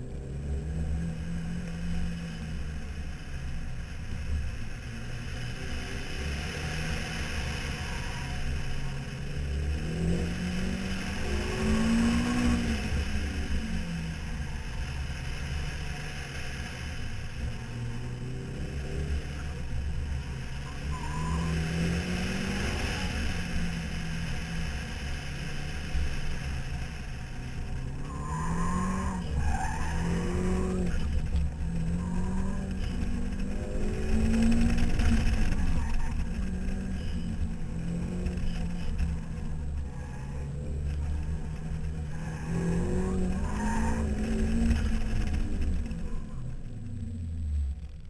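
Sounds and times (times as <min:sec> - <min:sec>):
car engine revving hard: 0:00.0 - 0:47.6.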